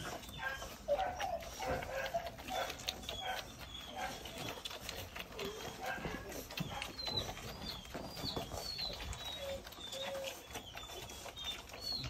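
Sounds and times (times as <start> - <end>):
puppies squeaking: 0.0 - 12.0
puppy whimpers: 0.0 - 12.0.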